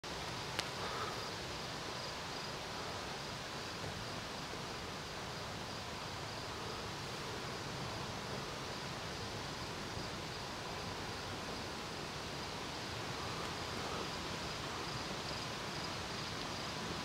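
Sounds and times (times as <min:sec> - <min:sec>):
steady background hiss: 0:00.0 - 0:17.0
faint high insect chirp: 0:00.1 - 0:17.0.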